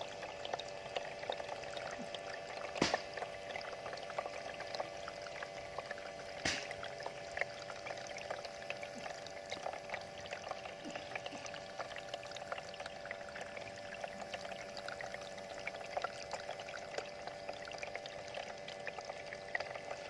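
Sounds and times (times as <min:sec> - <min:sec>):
fountain water trickling into basin: 0:00.0 - 0:20.0
water dripping: 0:00.0 - 0:20.0.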